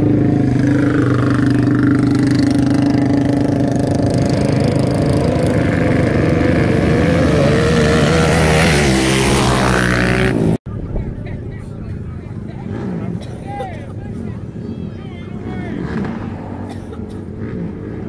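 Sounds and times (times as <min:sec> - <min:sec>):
atv engine revving: 0:00.0 - 0:10.6, 0:11.6 - 0:18.0.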